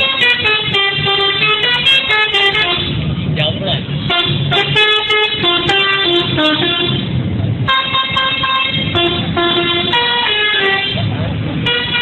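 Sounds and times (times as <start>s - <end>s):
multi-tone bus horn tune: 0.0s - 3.1s, 4.0s - 12.0s.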